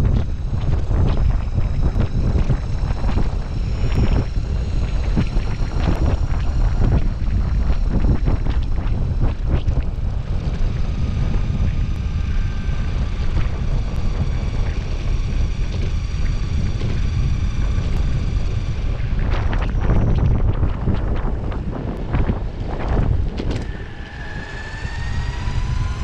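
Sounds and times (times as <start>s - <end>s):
high motor whine: 0.0s - 26.0s
skateboard wheels rumbling on asphalt: 0.0s - 26.0s
wind buffeting microphone: 0.0s - 26.0s.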